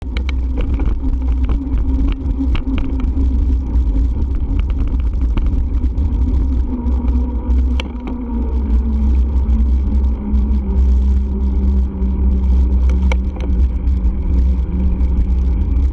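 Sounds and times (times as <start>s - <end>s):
droning hum of bike: 0.0s - 15.9s
small clicks and rattles: 0.0s - 15.9s
wind rumble on microphone: 0.0s - 15.9s.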